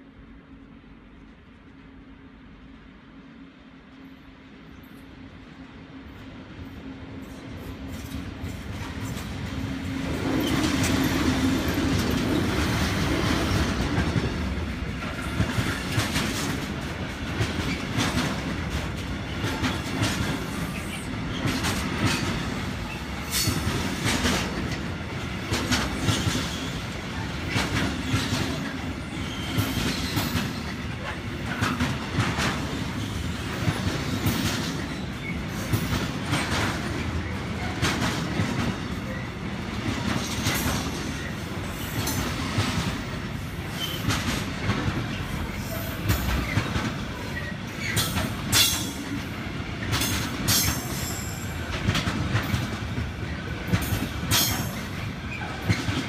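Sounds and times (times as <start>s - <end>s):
train running past: 0.0s - 56.0s
wheels clacking over rail joints: 7.9s - 56.0s.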